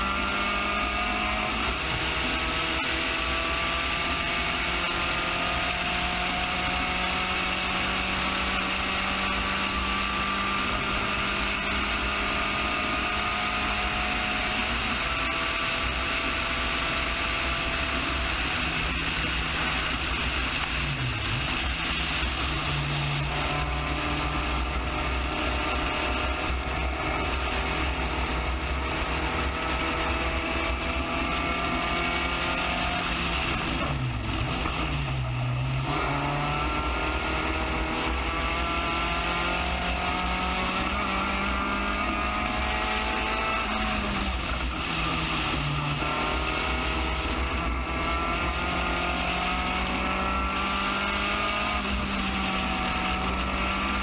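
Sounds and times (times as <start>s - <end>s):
race car engine at full throttle: 0.0s - 54.0s
road noise: 0.0s - 54.0s.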